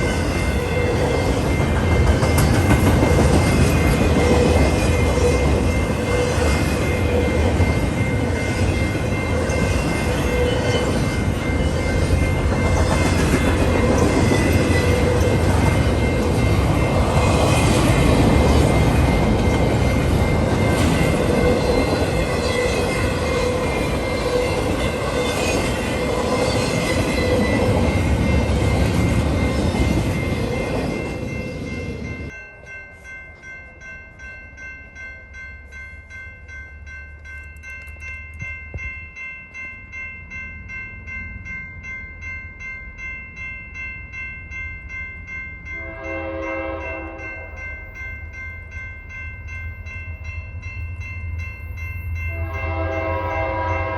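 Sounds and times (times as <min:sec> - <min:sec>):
ringing high tones: 0:00.0 - 0:53.9
train passing close by: 0:00.0 - 0:53.9.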